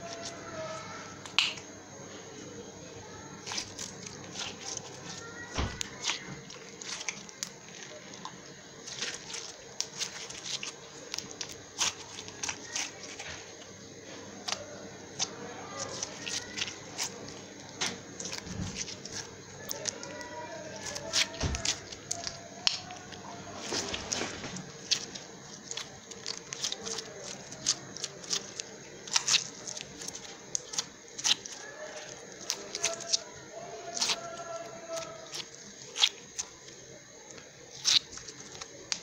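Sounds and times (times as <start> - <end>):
crunchy slime crackling and popping: 0.0 - 2.0, 3.0 - 39.0.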